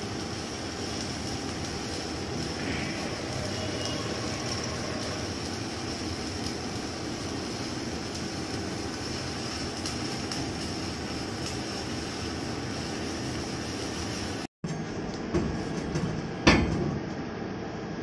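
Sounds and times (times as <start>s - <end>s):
welding arc hissing and crackling: 0.0s - 14.5s.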